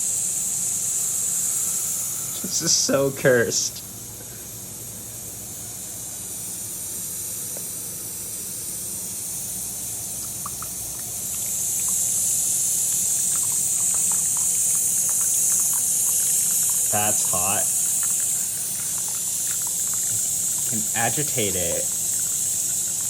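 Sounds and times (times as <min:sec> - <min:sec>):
kettle water heating hiss: 0:00.0 - 0:23.0.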